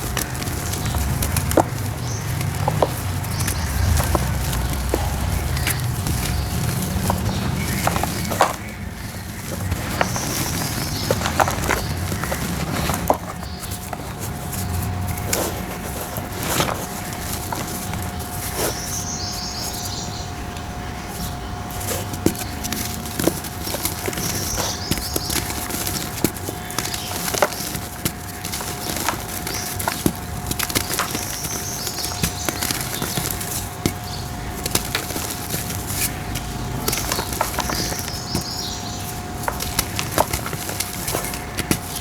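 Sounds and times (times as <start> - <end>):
dry dirt crumbling: 0.0 - 20.0, 21.1 - 42.0.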